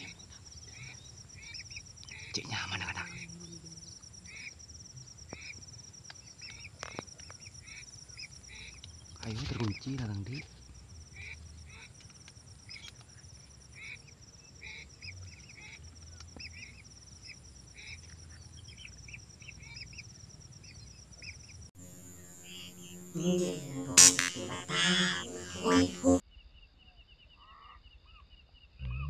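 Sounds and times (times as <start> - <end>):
high insect drone: 0.0 - 26.2.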